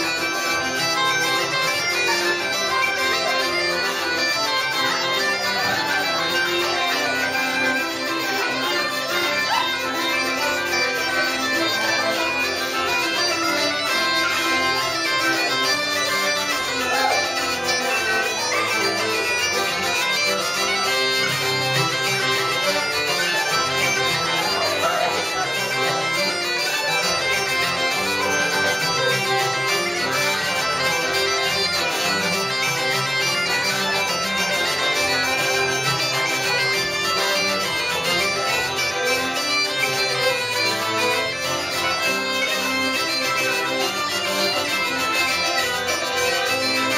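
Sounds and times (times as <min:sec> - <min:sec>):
accompanying instrument: 0:00.0 - 0:46.9
bagpipes playing: 0:00.0 - 0:46.9.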